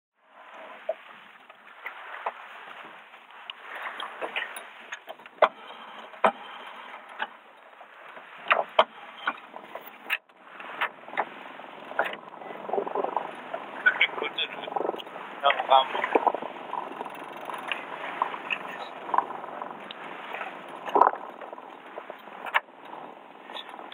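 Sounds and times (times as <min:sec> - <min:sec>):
gear knocking and clattering on boat: 0:00.5 - 0:23.9.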